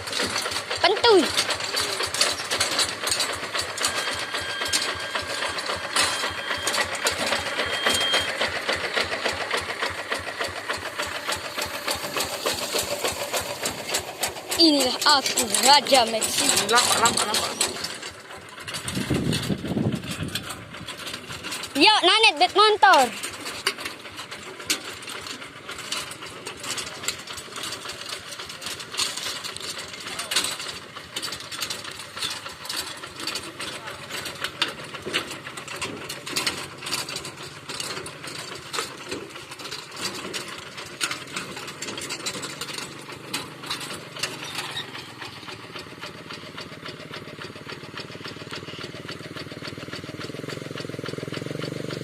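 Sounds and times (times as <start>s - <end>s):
diesel engine chugging: 0.0s - 52.0s.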